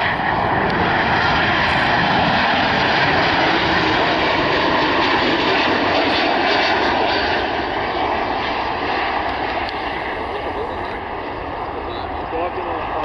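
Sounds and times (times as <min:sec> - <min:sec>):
jet engine noise: 0:00.0 - 0:13.0.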